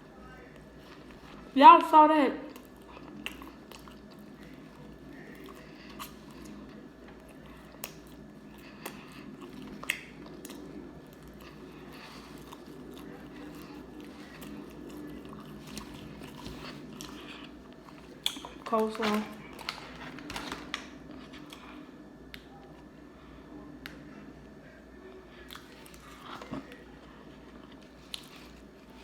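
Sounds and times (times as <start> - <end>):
person chewing food: 2.5 - 22.9, 25.4 - 29.0.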